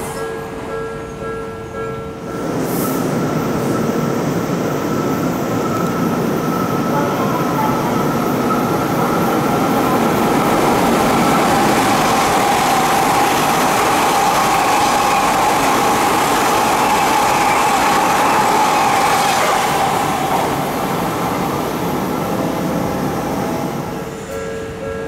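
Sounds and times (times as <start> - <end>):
electric train rail rumble: 0.0 - 25.0
thin high train whine: 0.0 - 25.0.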